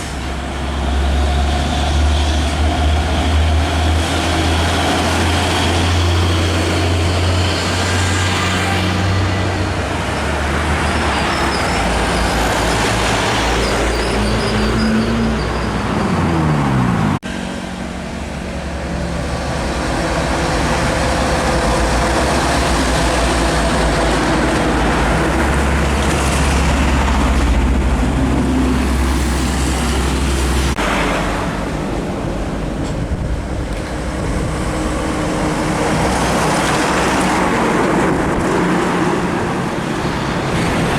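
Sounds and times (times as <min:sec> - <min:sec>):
heavy trucks driving past: 0:00.0 - 0:40.9
tyres on road: 0:00.0 - 0:40.9.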